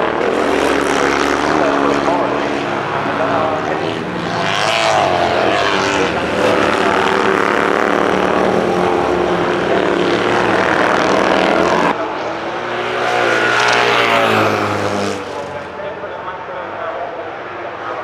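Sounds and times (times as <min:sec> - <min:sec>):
racing sidecar engines revving past: 0:00.0 - 0:18.0.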